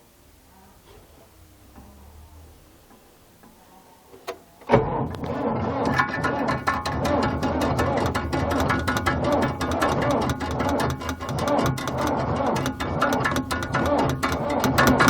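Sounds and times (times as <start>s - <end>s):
tractor engine clattering: 0.8s - 15.0s.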